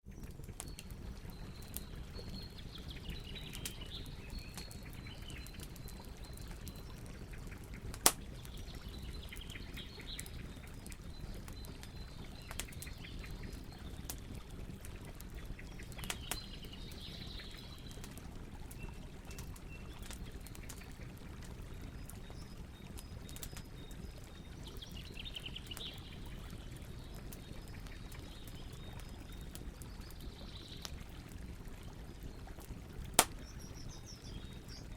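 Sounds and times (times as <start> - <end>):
small birds chirping: 0.1 - 32.6, 33.2 - 34.9
campfire crackling and popping: 0.1 - 34.9.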